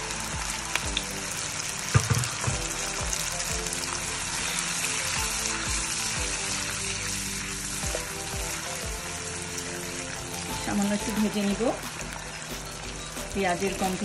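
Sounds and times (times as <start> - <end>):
background music with steady beat: 0.0 - 14.0
onion sizzling in hot oil: 0.0 - 14.0.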